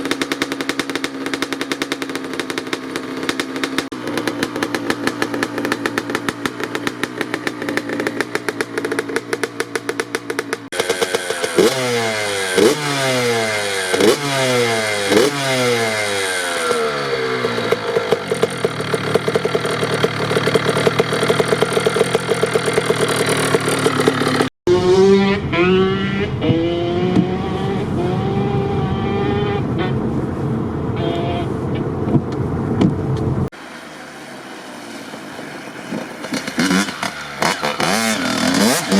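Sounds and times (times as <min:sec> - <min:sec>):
dirt bike engine revving: 0:00.0 - 0:30.0, 0:36.2 - 0:38.9.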